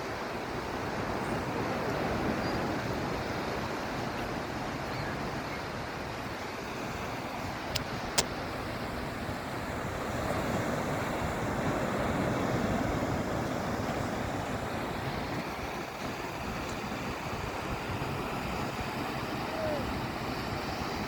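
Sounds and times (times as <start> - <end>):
sea surf washing onto beach: 0.0 - 21.0.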